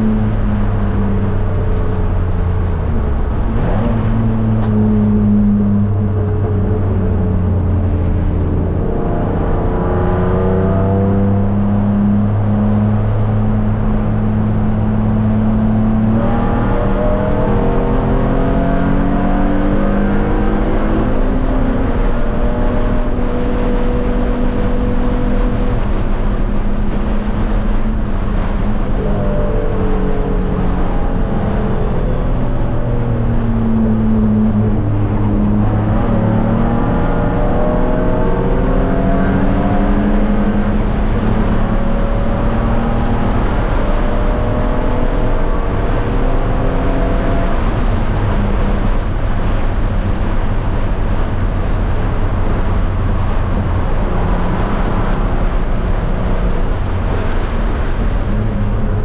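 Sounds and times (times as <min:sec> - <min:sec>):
race car engine revving: 0:00.0 - 0:59.0
road and wind noise: 0:00.0 - 0:59.0.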